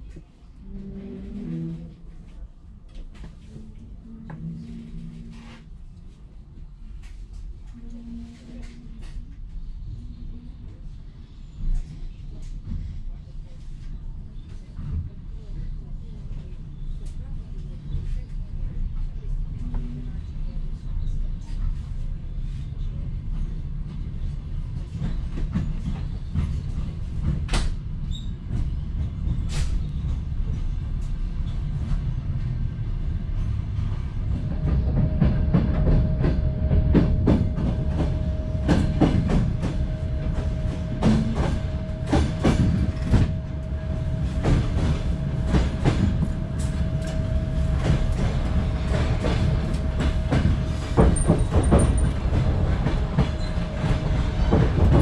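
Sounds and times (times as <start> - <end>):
train carriage rumble: 0.0 - 55.0.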